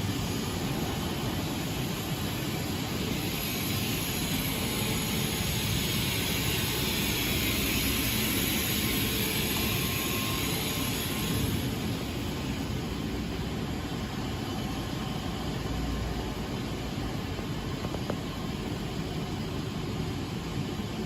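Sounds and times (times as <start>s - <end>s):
high hiss: 0.0s - 19.2s
laser welding machine noise: 0.0s - 21.0s.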